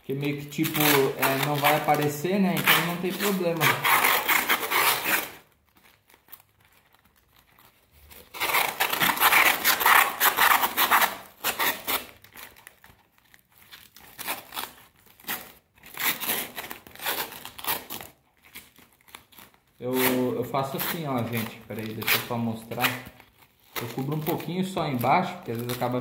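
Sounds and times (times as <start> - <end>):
paper and foil crinkling: 0.0 - 26.0.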